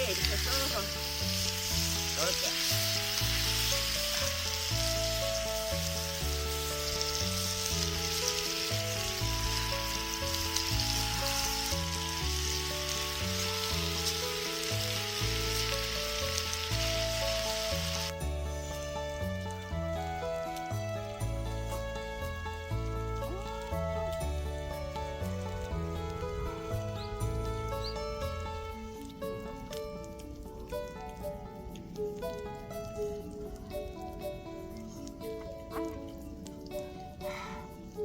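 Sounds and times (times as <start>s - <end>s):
food sizzling in a pan: 0.0s - 31.0s
background music with bass line: 0.0s - 38.0s.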